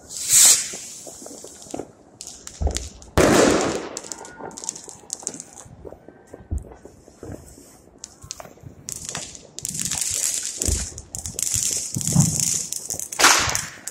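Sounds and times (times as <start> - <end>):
light crackling: 0.0 - 13.9
firecracker pops: 0.2 - 5.7, 8.0 - 13.9.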